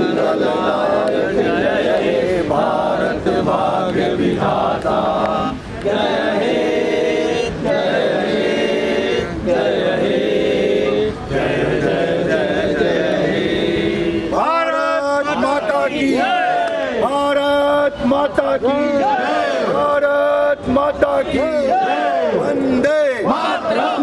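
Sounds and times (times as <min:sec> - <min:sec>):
men singing in unison: 0:00.0 - 0:24.0.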